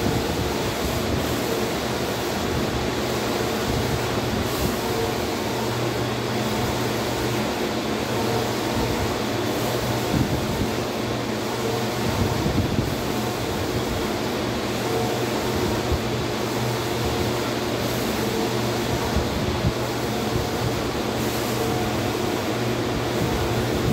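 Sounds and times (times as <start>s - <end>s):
printer fans whirring: 0.0s - 23.9s.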